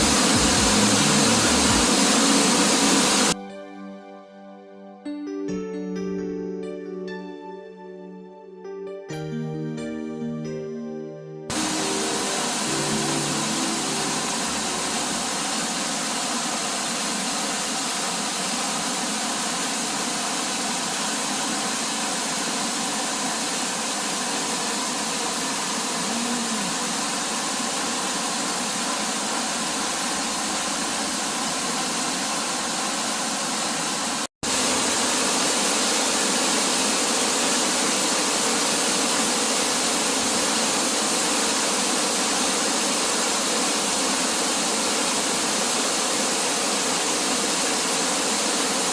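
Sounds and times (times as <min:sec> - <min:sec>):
waterfall rushing: 0:00.0 - 0:03.4, 0:11.5 - 0:48.9.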